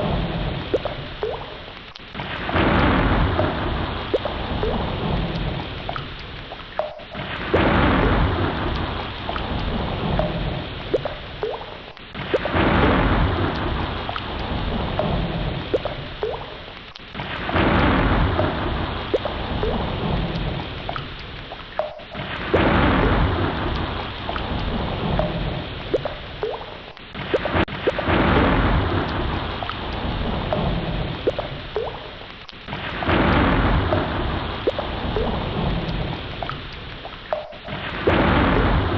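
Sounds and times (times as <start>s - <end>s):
ocean surf washing: 0.0s - 38.9s
rising watery blips: 0.0s - 38.9s.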